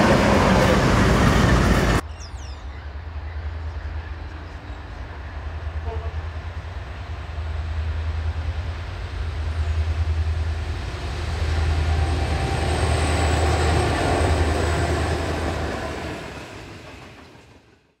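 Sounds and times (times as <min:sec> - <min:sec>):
diesel locomotives droning: 0:00.0 - 0:17.8.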